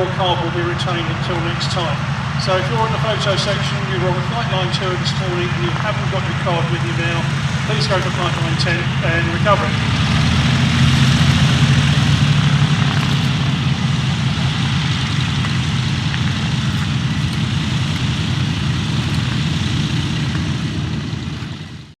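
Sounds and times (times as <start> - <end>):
aircraft radial engines idling: 0.0 - 22.0.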